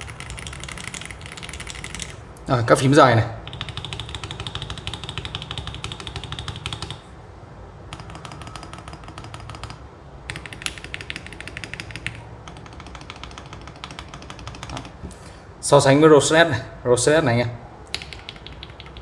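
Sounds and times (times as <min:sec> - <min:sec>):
mechanical keyboard typing: 0:00.0 - 0:07.0, 0:07.9 - 0:15.1, 0:17.9 - 0:19.0.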